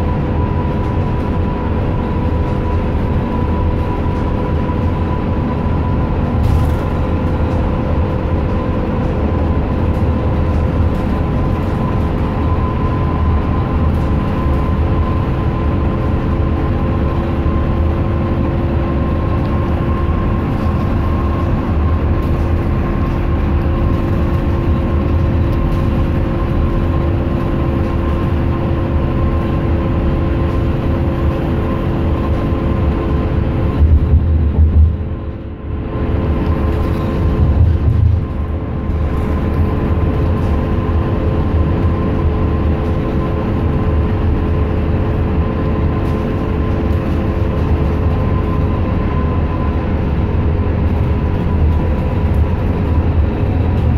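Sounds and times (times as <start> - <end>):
bus engine and road noise: 0.0 - 53.9
multi-tone whine: 0.0 - 53.9.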